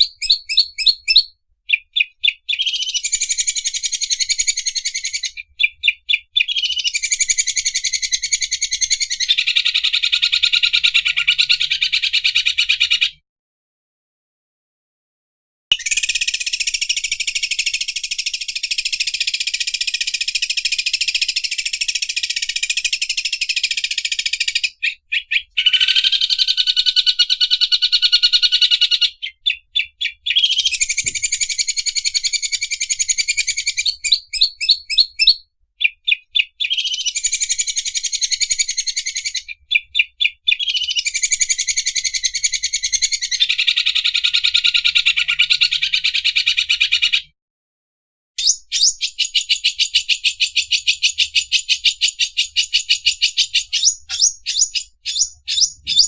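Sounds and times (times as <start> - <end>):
bird chipping notes: 0.0 - 13.1, 15.7 - 47.1, 48.4 - 56.0.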